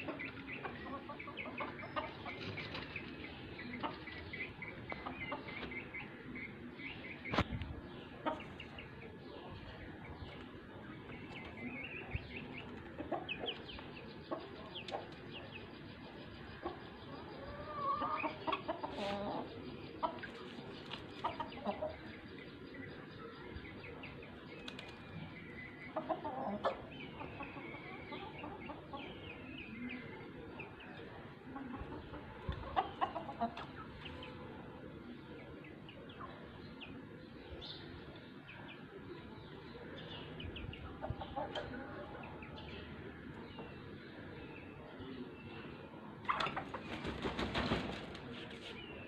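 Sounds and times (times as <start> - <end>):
chickens clucking and calling: 0.0 - 49.0.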